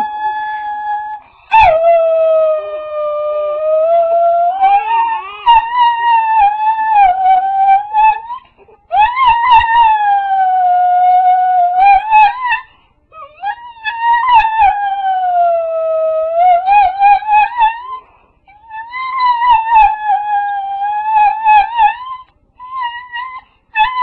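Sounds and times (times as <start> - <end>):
dog howling: 0.0 - 24.0.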